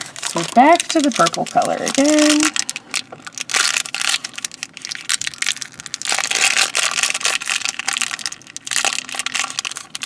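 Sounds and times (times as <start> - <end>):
plastic bag crinkling and tearing: 0.0 - 10.0.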